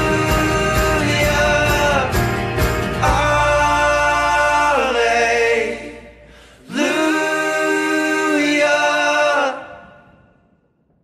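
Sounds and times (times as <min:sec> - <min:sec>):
sung vocals holding long notes: 0:00.0 - 0:10.4.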